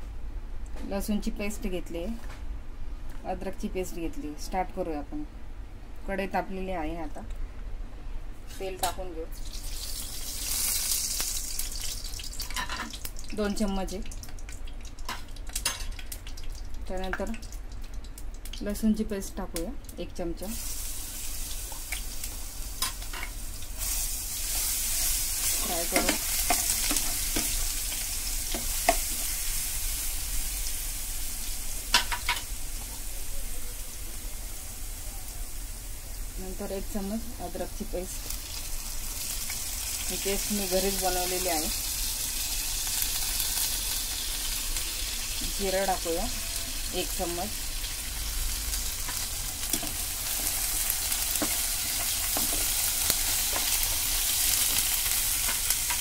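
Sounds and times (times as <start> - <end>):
garlic sizzling in hot oil: 9.3 - 56.0.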